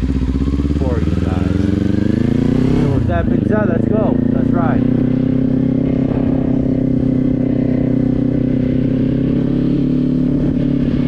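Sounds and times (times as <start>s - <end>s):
motorcycle engine running steadily: 0.0s - 11.0s.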